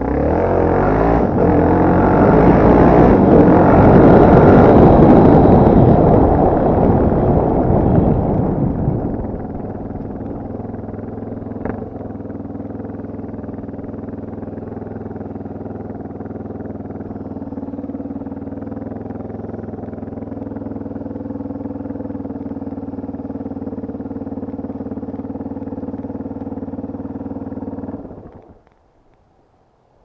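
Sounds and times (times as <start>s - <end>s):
dirt bike engine running: 0.0s - 28.8s.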